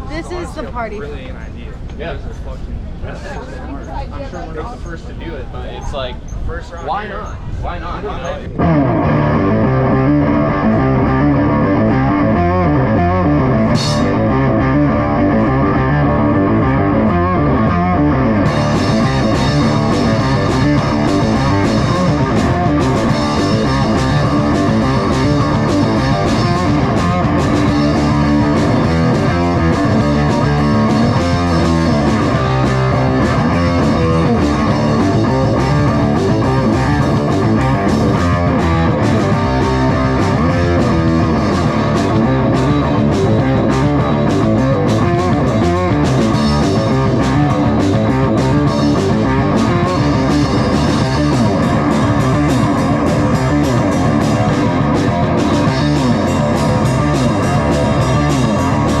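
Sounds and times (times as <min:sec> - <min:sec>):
rock music with electric guitar: 0:08.5 - 0:59.0.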